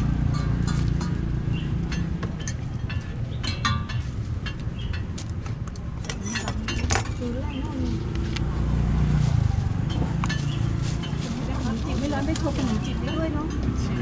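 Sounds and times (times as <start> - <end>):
metal utensils clinking: 0.0 - 7.8, 9.8 - 14.0
low engine rumble: 0.0 - 14.0.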